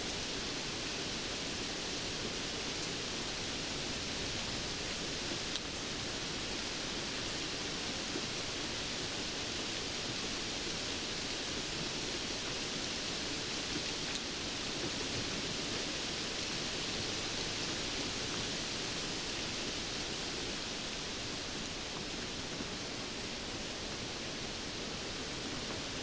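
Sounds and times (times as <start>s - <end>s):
faint ticks of raindrops: 0.0s - 26.0s
steady rain: 0.0s - 26.0s.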